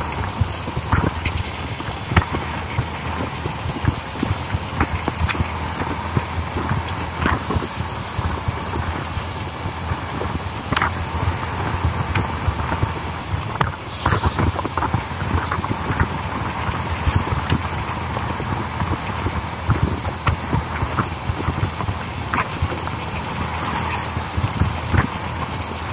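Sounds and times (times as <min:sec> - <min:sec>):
motorbike running: 0:00.0 - 0:25.9
tyres on road: 0:00.0 - 0:25.9
wind buffeting microphone: 0:00.0 - 0:25.9.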